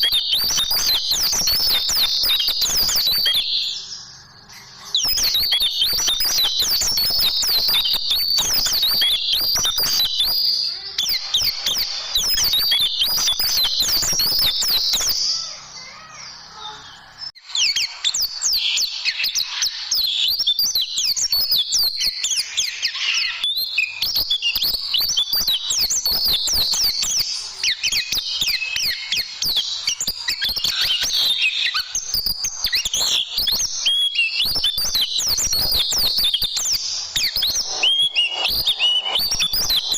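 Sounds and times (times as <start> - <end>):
bird song with high chirps: 0.0 - 39.9.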